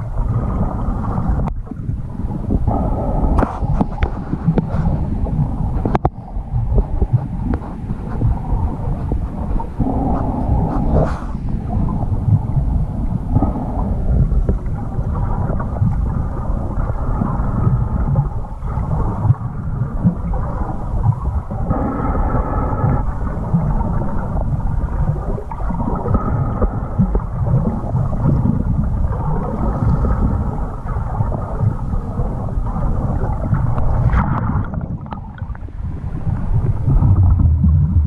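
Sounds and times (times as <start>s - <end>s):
muffled underwater rumble: 0.0s - 38.0s
water sloshing: 0.0s - 38.0s.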